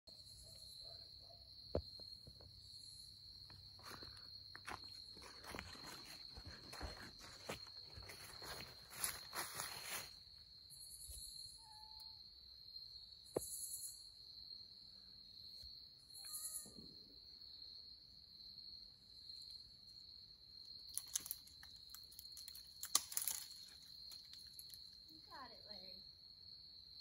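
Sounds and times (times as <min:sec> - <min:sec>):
insects trilling: 0:00.1 - 0:27.0.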